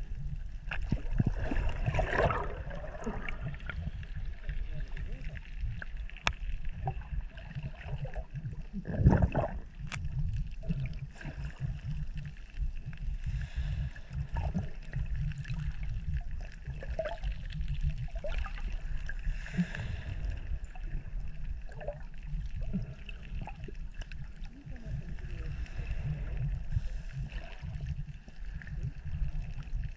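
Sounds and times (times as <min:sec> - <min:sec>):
muffled underwater water sloshing: 0:00.0 - 0:29.9.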